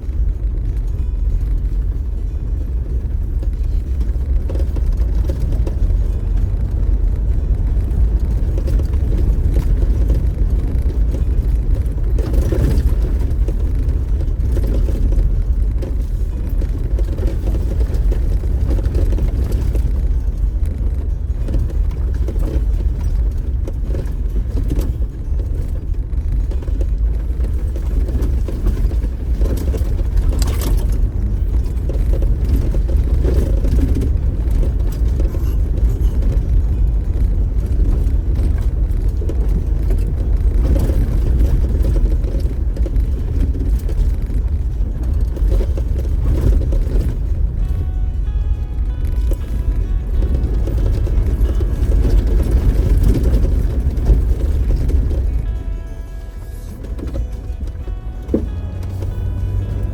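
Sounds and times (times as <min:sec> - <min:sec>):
off-road vehicle engine rumble: 0:00.0 - 0:59.9
vehicle rattling over bumps: 0:00.0 - 0:59.9.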